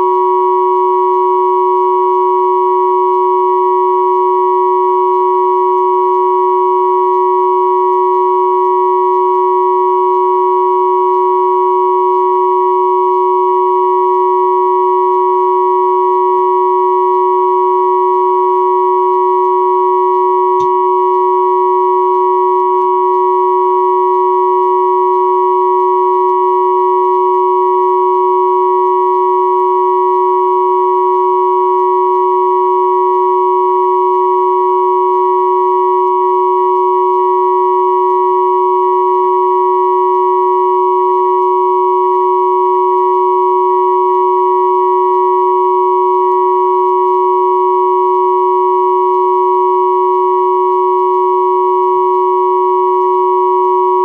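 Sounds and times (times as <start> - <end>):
steady sine tone chord: 0.0 - 54.0.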